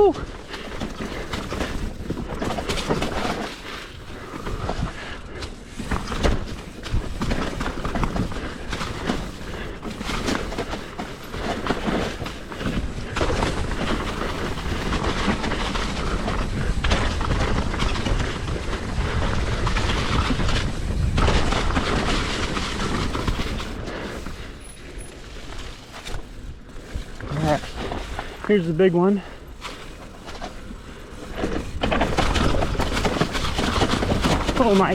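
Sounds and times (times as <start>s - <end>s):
tyres rolling over rock: 0.0s - 5.0s, 5.7s - 34.9s
wind rumble on microphone: 0.0s - 28.4s
mountain bike rattling on rocks: 0.0s - 34.9s.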